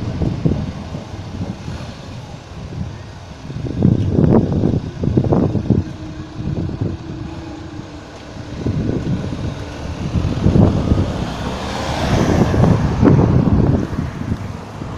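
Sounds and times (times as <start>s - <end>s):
cars driving over level crossing: 0.0s - 14.9s.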